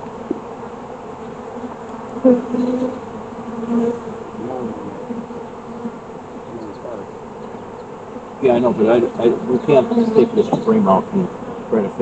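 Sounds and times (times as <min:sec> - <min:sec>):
honeybees buzzing: 0:00.0 - 0:12.0
single bee humming past: 0:00.0 - 0:12.0.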